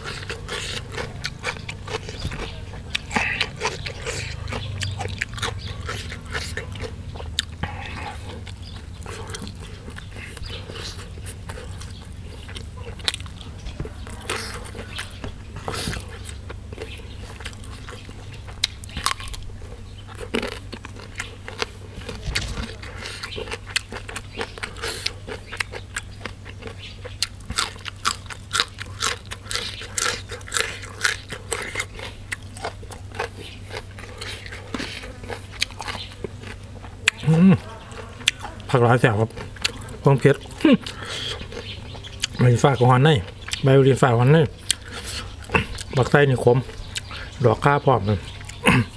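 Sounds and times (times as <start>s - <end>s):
mouth clicks: 0.0s - 19.5s, 20.2s - 48.9s
steady low hum: 0.0s - 48.9s
wet chewing: 0.0s - 48.9s.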